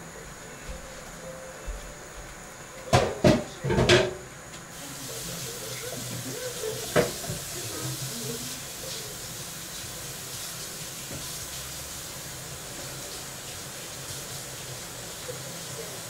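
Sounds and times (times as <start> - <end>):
pots boiling with hiss: 0.0 - 16.0.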